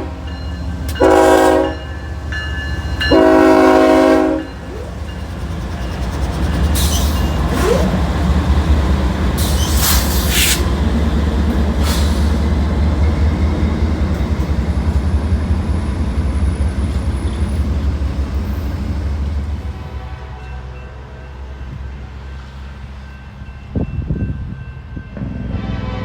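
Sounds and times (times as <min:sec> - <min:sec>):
train engine and rail rumble: 0:00.0 - 0:26.0.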